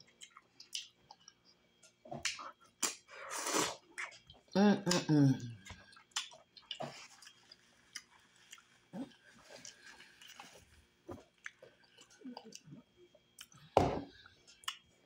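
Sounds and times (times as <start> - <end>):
chewing with wet smacks: 0.0 - 3.1, 3.8 - 4.6, 5.5 - 14.9.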